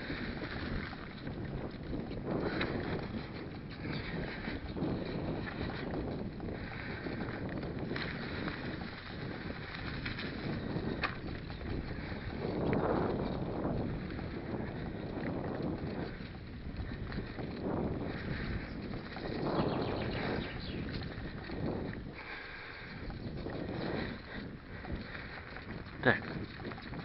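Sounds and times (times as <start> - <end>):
bike tyre rumble: 0.0 - 27.0
wind on microphone: 0.0 - 27.0.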